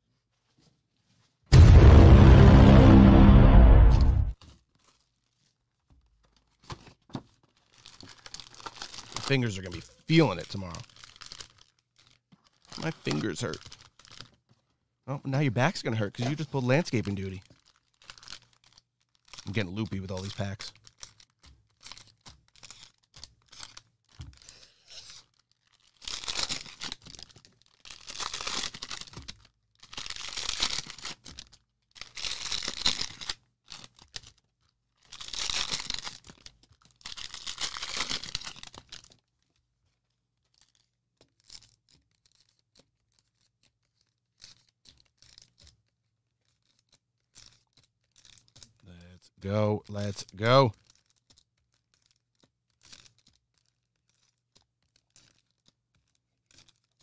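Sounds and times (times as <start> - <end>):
cards rustling and clicking: 4.4 - 14.4, 16.0 - 34.4, 35.1 - 48.8, 49.5 - 57.0
cellophane wrappers ripping: 4.4 - 14.4, 15.3 - 39.6, 40.4 - 48.8, 49.4 - 57.0.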